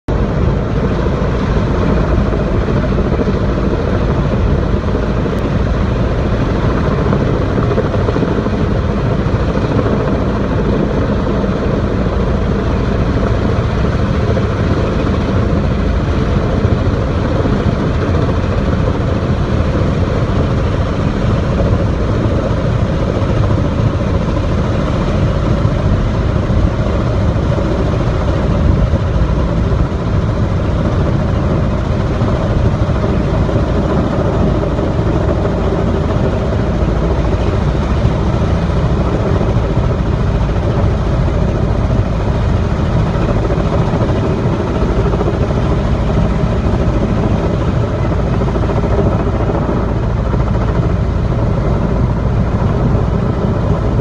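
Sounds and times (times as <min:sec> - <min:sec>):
helicopter hovering overhead: 0:00.0 - 0:54.0.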